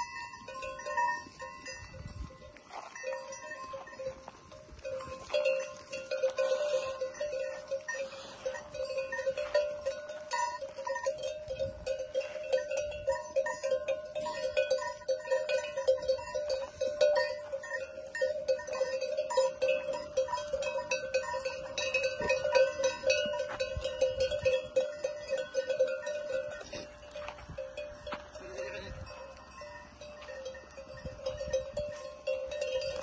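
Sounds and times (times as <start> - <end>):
sheep bells clanking: 0.0 - 33.0.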